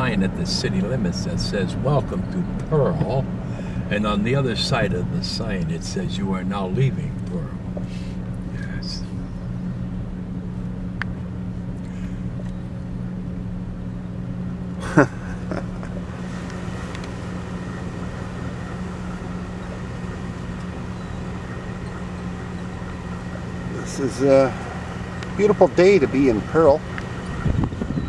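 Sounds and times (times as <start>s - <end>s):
car engine humming: 0.0s - 28.0s.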